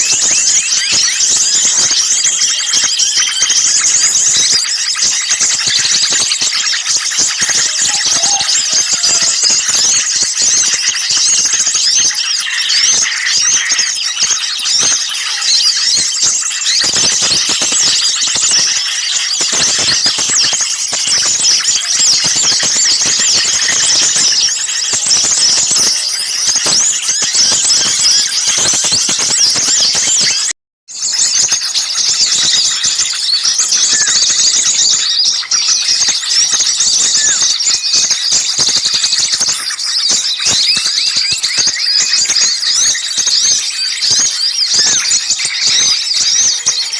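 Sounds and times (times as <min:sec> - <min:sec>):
chorus of small songbirds chirping: 0:00.0 - 0:46.9.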